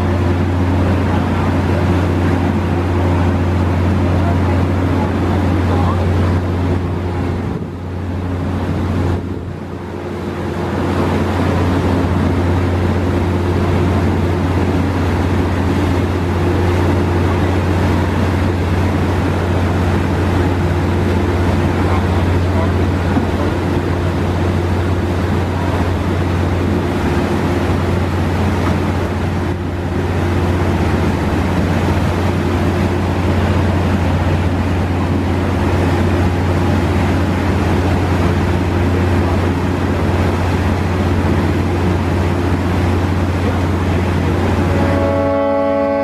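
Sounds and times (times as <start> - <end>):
diesel engines droning: 0.0 - 46.0
water churning: 0.0 - 46.0.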